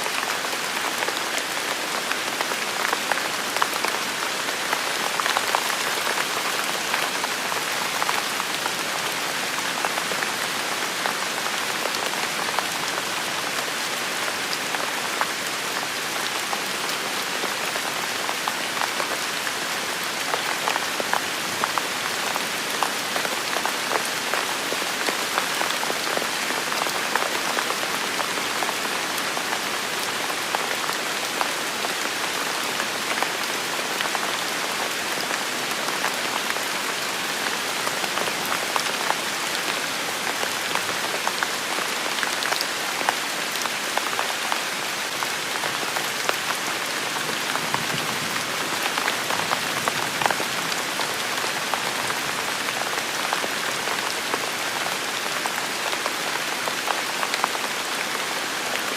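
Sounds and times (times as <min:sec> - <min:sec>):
rain pattering on hard surfaces: 0:00.1 - 0:58.9.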